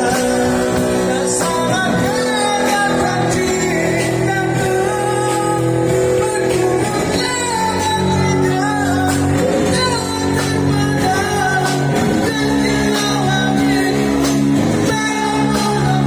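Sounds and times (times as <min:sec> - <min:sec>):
guitar chords: 0:00.0 - 0:16.0
person singing: 0:00.0 - 0:16.0.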